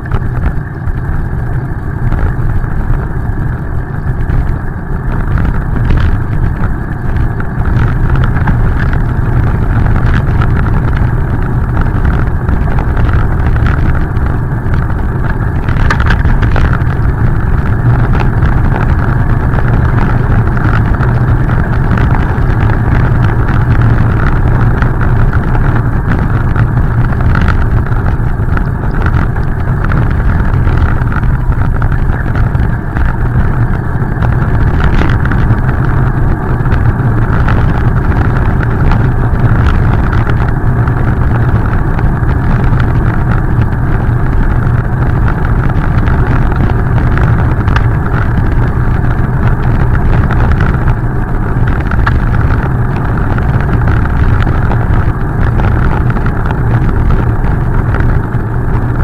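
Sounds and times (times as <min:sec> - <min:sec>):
tyres on wet pavement: 0:00.0 - 0:59.0
wind buffeting microphone: 0:00.0 - 0:59.0.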